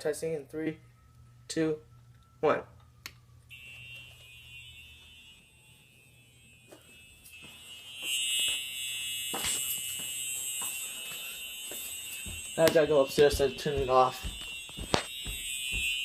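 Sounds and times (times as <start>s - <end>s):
fire alarm horn buzzing: 0.0s - 16.0s.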